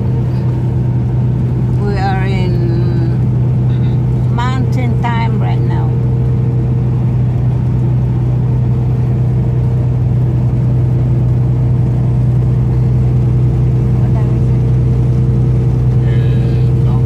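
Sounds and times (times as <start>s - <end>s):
truck engine and road hum: 0.0s - 17.0s.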